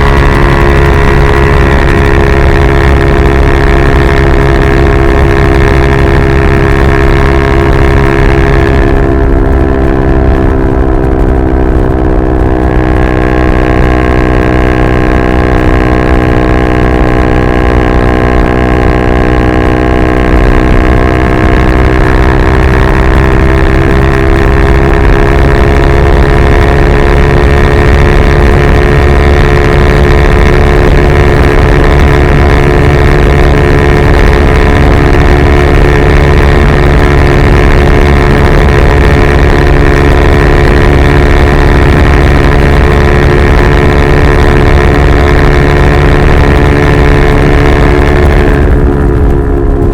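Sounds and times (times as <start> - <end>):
loud motorcycle engine running: 0.0 - 49.9.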